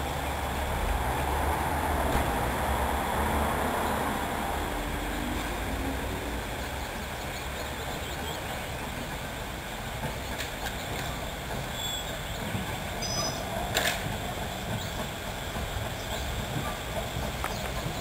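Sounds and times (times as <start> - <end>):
steam locomotive rumbling: 0.0 - 18.0.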